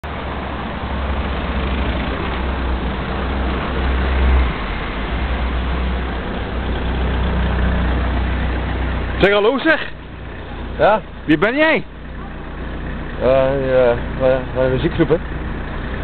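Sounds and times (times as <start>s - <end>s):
cars driving on a road: 0.0s - 16.0s.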